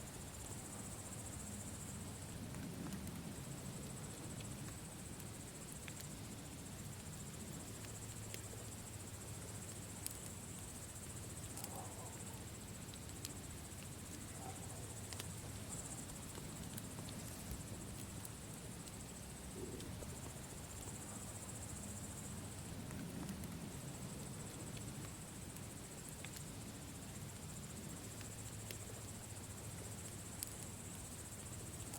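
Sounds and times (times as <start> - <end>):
crickets chirping: 0.0 - 31.9
campfire crackling and popping: 1.8 - 31.9.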